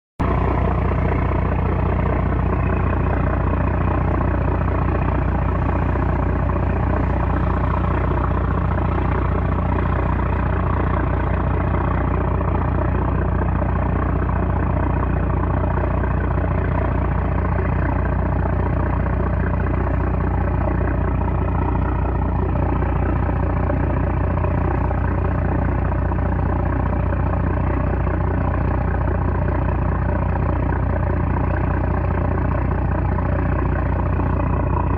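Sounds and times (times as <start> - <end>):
diesel engine droning: 0.2 - 34.9.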